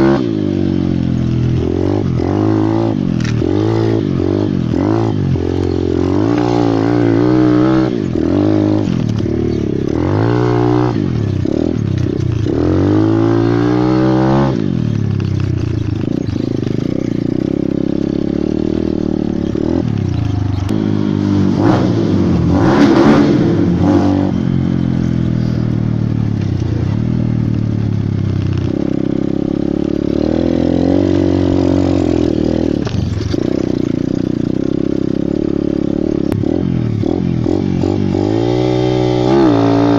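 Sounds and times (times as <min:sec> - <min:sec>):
pit bike engine running hard: 0:00.0 - 0:39.9.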